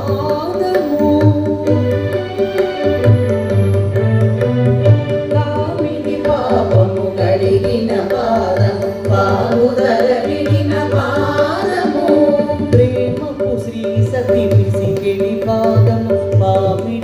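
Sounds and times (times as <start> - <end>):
indian classical music: 0.0 - 17.0.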